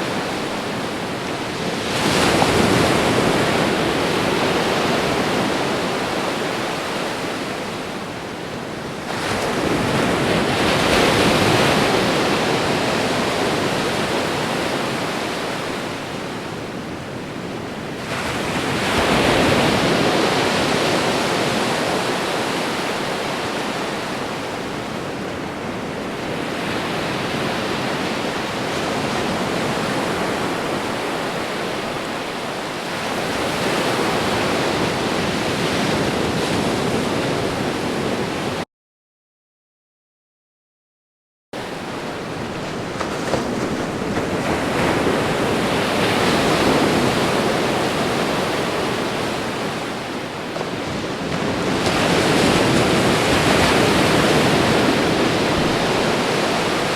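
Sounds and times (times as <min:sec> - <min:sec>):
ocean waves washing onto shore: 0:00.0 - 0:38.6, 0:41.6 - 0:56.9.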